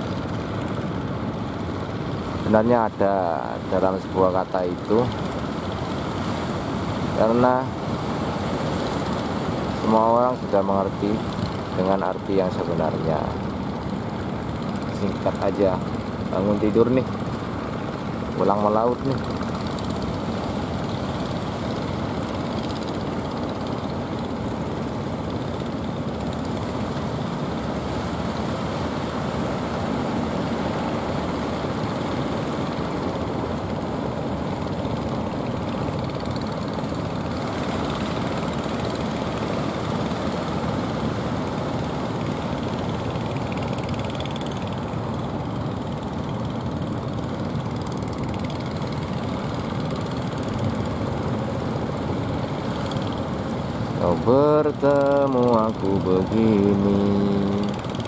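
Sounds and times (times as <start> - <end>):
boat motors running: 0.0 - 58.0
waves breaking on shore: 0.0 - 58.0.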